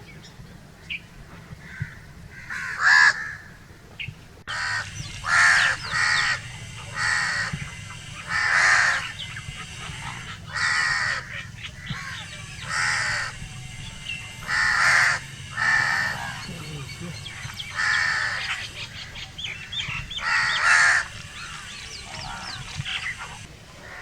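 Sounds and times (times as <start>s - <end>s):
crow cawing: 1.6s - 3.6s, 4.5s - 24.0s.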